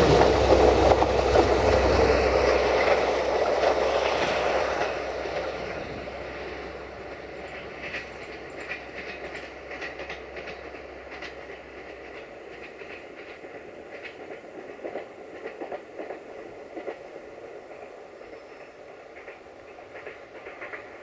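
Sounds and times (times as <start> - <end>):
train rumble: 0.0 - 21.0
train wheels clicking on rails: 0.0 - 21.0.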